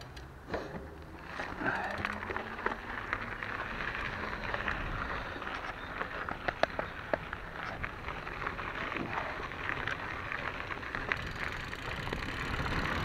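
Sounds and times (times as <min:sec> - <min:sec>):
bike tyres crunching on gravel: 0:00.8 - 0:13.0.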